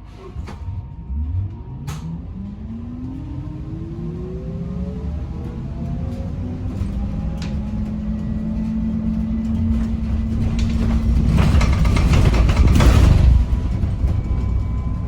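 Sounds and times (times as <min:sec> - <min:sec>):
bus low hum: 0:00.0 - 0:15.0
rattling rush: 0:02.1 - 0:15.0.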